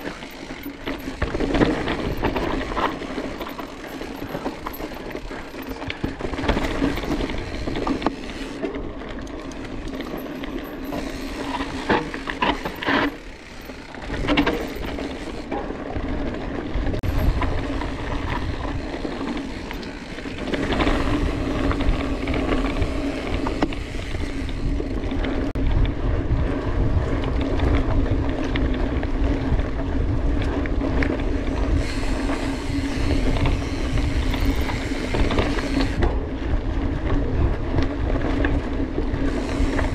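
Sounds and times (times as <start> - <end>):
bike knocks and rattles: 0.0 - 25.9, 26.6 - 39.9
bicycle freehub buzzing: 0.0 - 39.9
tyres rolling on rough ground: 0.0 - 39.9.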